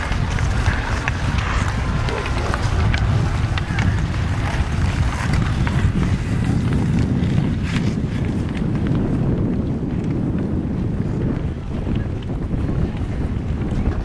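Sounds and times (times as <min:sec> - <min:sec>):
hockey sticks and skates on ice: 0:00.0 - 0:14.0
wind buffeting microphone: 0:00.0 - 0:14.0.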